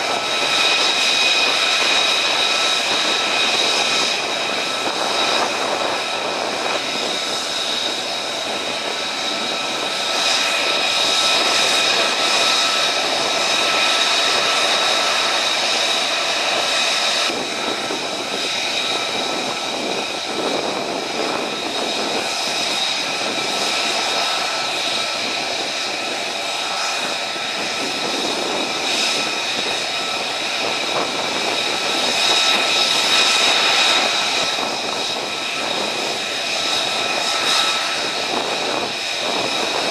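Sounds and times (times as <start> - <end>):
jet engines whining: 0.0 - 39.9
rush of engine noise: 0.0 - 39.9.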